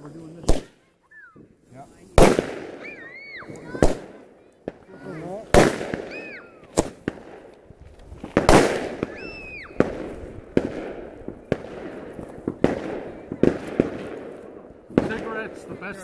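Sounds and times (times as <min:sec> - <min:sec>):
fireworks bangs: 0:00.4 - 0:16.0.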